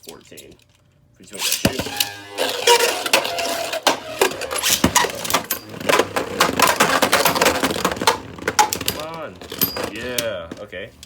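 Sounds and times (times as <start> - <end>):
spinning tops whirring: 1.3 - 10.6
spinning tops clashing: 1.4 - 10.3.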